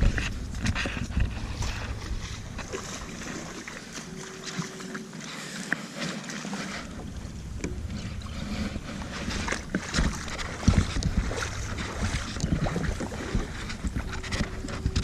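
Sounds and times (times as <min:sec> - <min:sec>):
wind on microphone: 0:00.0 - 0:04.3, 0:06.8 - 0:15.0
kayak moving over water: 0:00.0 - 0:15.0.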